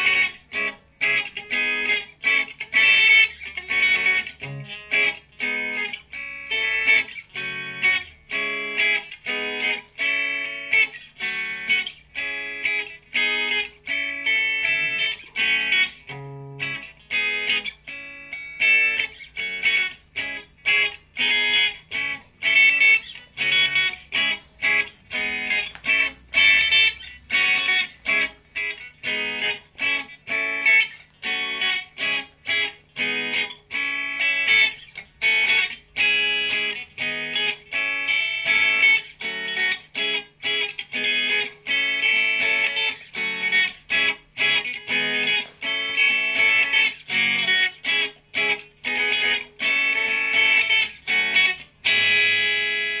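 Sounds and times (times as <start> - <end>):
electric guitar chord stabs: 0.0 - 53.0.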